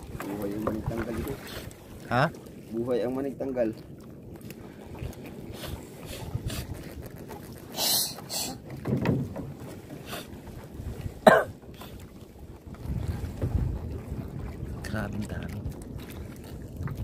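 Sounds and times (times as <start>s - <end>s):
wind and sea rushing: 0.0s - 17.0s.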